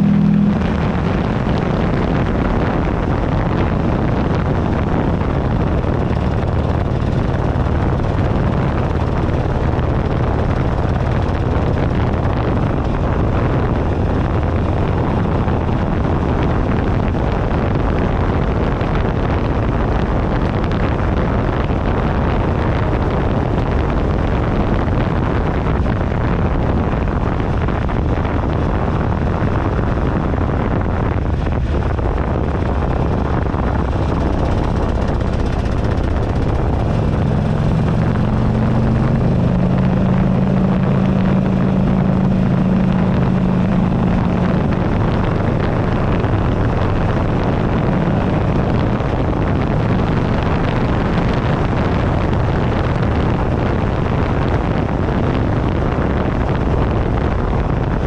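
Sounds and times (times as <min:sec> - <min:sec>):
motorcycle engine: 0:00.0 - 0:53.7
wind buffeting microphone: 0:00.0 - 0:58.0.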